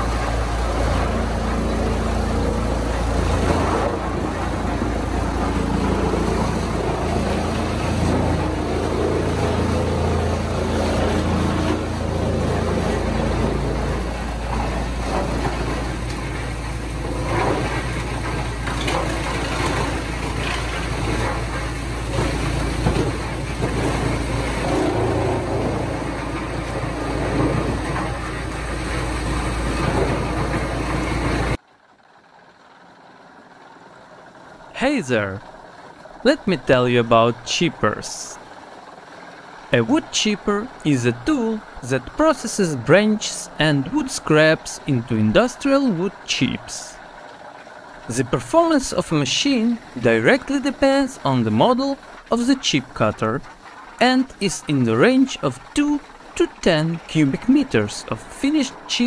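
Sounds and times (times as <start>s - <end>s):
heavy machinery running: 0.0s - 31.6s, 32.2s - 59.0s.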